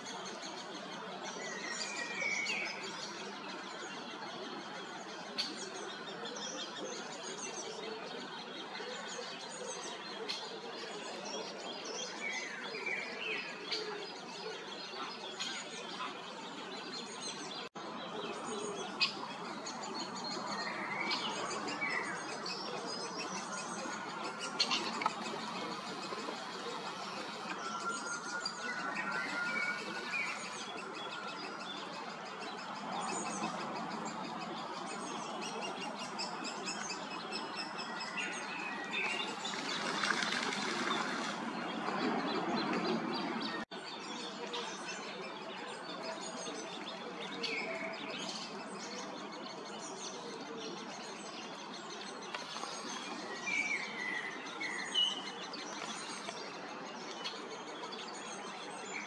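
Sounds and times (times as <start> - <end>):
small birds chirping and singing: 0.0 - 59.0.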